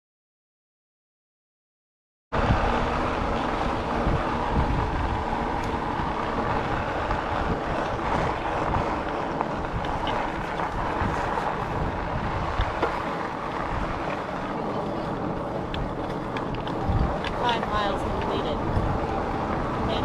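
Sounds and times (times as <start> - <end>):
wind buffeting microphone: 2.4 - 20.0.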